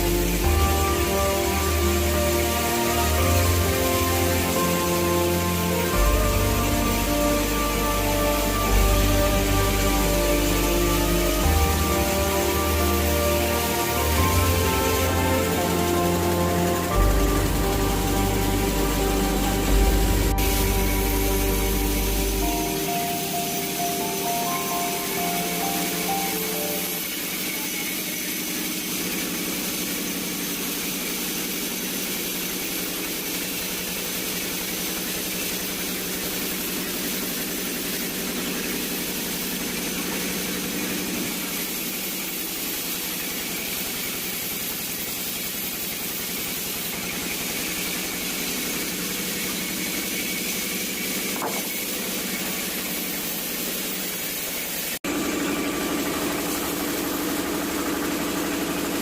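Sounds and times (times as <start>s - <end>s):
saw machine humming with hiss: 0.0s - 59.0s.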